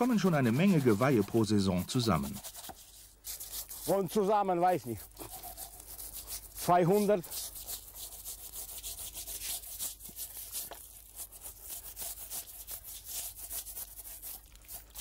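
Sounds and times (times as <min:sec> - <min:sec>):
scratchy scrubbing of bone: 0:00.0 - 0:15.0.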